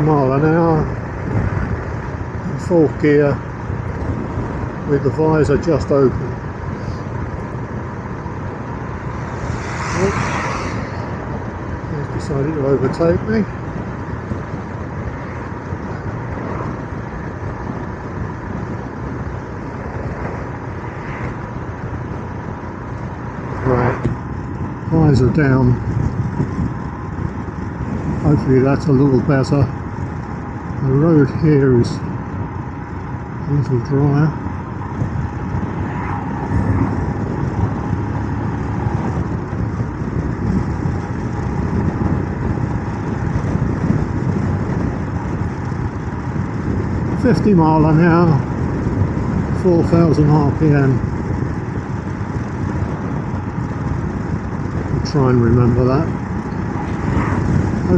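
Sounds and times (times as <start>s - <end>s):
motorcycle engine cruising: 0.0s - 57.9s
road noise: 0.0s - 57.9s
wind rush: 0.0s - 57.9s.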